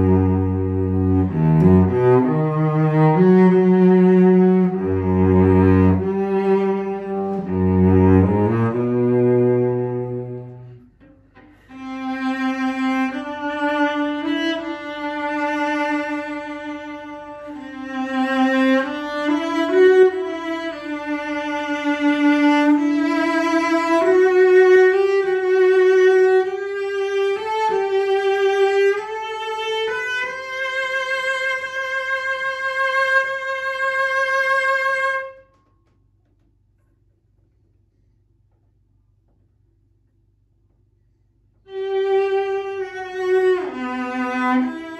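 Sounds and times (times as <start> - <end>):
solo bowed cello melody: 0.0 - 36.0, 41.6 - 44.9.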